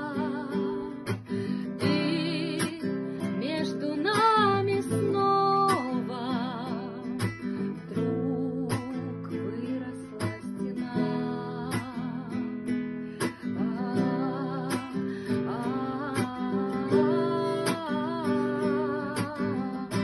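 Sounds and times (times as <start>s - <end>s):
woman singing with vibrato: 0.0s - 12.5s, 13.2s - 20.0s
acoustic guitar strumming: 0.0s - 20.0s.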